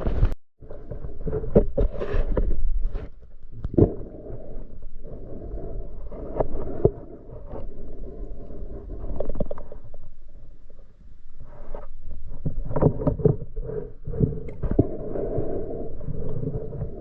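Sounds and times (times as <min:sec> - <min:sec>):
muffled underwater water rumble: 0:00.0 - 0:17.0.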